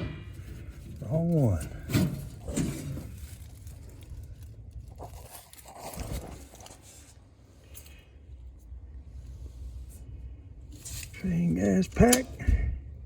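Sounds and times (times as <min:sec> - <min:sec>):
crunching and scraping handling noises: 0:00.0 - 0:12.6
low steady hum: 0:00.0 - 0:13.0.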